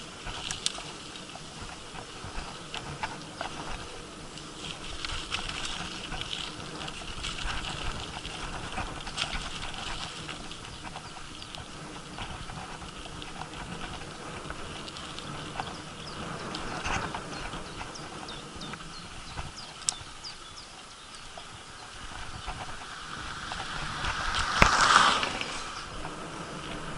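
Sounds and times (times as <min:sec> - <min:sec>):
bicycle clicks and rattles: 0:00.0 - 0:26.9
wind rumbling on microphone: 0:00.0 - 0:26.9.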